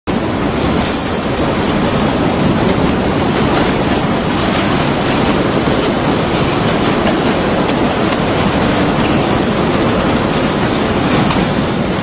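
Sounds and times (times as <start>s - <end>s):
roller conveyor running: 0.1s - 12.0s.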